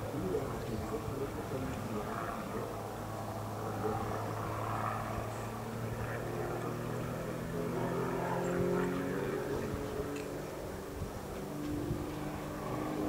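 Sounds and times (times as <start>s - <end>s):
propeller airplane droning overhead: 0.0s - 13.0s.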